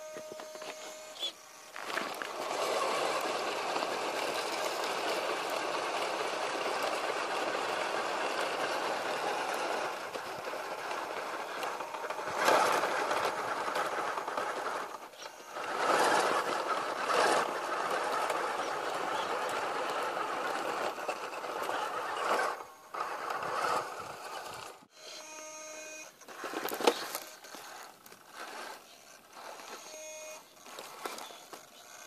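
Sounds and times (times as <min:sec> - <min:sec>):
tyres churning loose dirt: 0:00.0 - 0:24.9, 0:26.2 - 0:32.0
electric motor whirring: 0:00.0 - 0:32.0.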